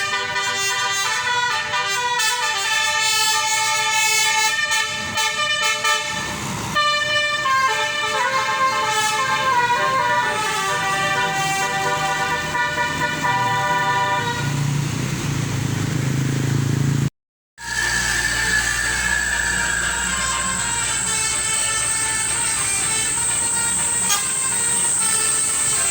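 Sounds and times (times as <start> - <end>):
multi-tone bus horn playing a tune: 0.0 - 14.7, 17.6 - 25.9
bus engine rumbling: 0.0 - 25.9.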